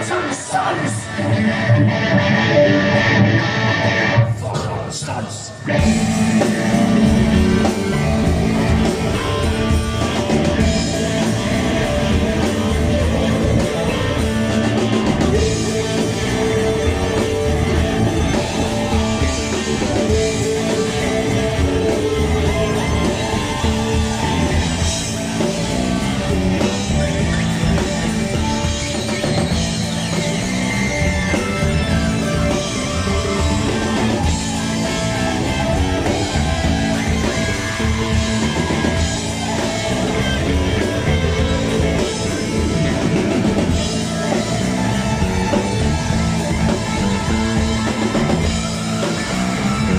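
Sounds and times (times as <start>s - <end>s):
drums: 0.0s - 49.9s
electric guitar: 0.0s - 49.9s
keyboards: 0.0s - 49.9s.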